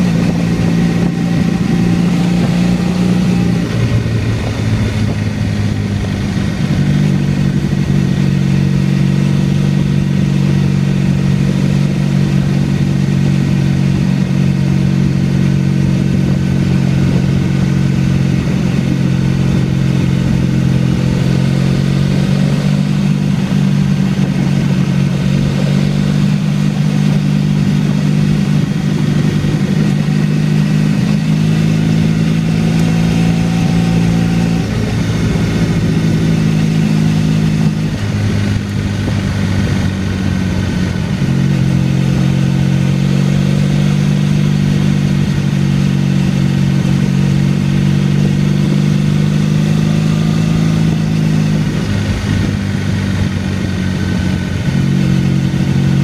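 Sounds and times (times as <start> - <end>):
motorcycle engine cruising: 0.0 - 56.0
wind rushing: 0.0 - 56.0.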